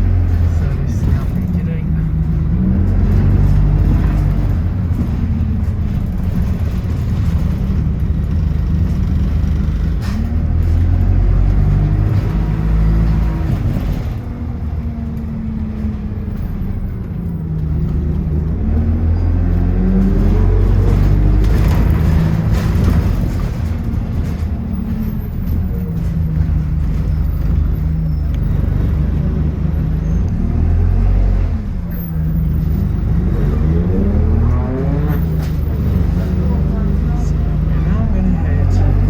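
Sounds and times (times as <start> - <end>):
bus engine accelerating: 0.0 - 39.0.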